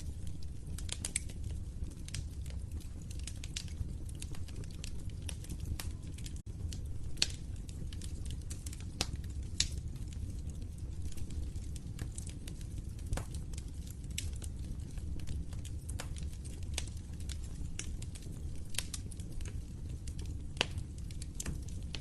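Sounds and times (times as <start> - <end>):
fire crackles and pops: 0.0 - 22.0
fire rumbling: 0.0 - 22.0.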